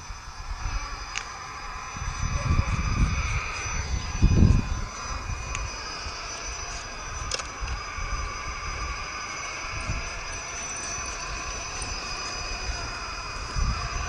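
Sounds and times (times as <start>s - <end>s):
low rumble of wheels: 0.0s - 14.0s
toy truck motor whining: 0.0s - 14.0s.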